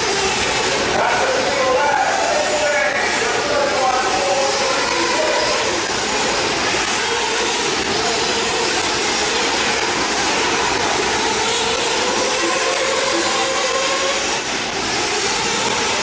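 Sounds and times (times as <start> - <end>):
rc buggy engines buzzing: 0.0 - 16.0.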